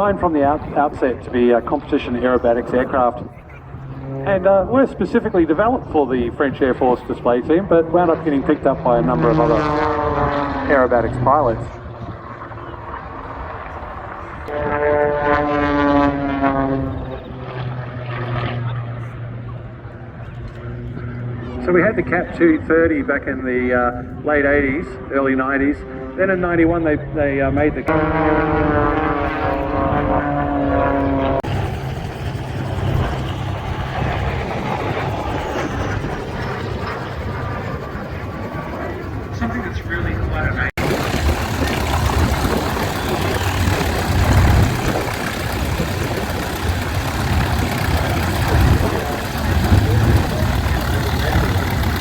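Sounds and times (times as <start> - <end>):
propeller plane engine drone: 0.0 - 52.0.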